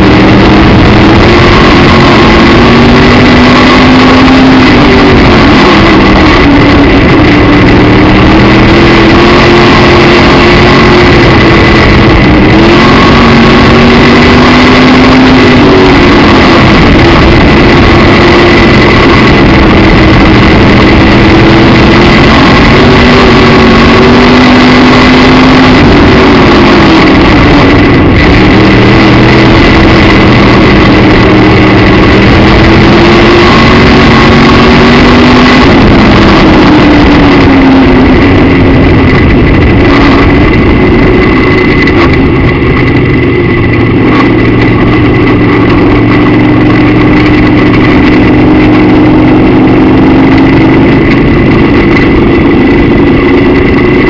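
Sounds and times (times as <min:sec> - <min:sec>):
race car engine: 0:00.0 - 0:54.0
thin high whine: 0:00.0 - 0:54.0.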